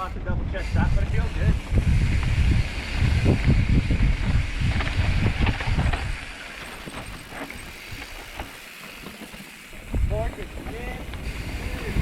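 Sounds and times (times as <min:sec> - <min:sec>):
wind on microphone: 0:00.0 - 0:08.5, 0:09.7 - 0:12.0
bike tyres on dirt trail: 0:00.0 - 0:12.0
bike clicks and rattles: 0:01.0 - 0:12.0.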